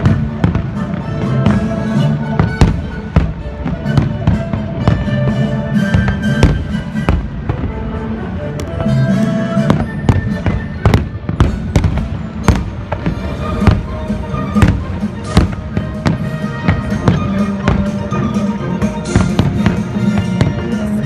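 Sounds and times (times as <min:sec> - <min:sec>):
fireworks bangs: 0:00.0 - 0:21.0
music soundtrack: 0:00.0 - 0:21.0.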